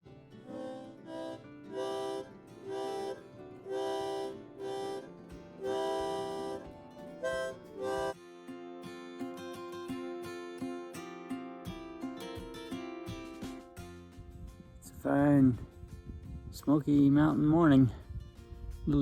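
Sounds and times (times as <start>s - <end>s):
held chords: 0.0s - 16.5s
strummed guitar: 0.0s - 19.0s.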